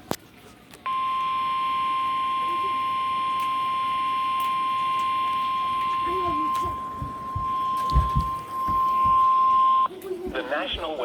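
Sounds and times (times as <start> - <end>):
steady alarm tone: 0.9 - 9.9.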